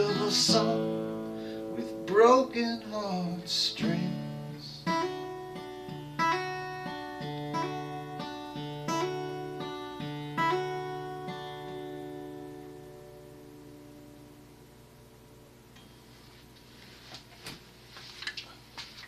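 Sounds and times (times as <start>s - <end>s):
acoustic guitar playing: 0.0s - 16.3s.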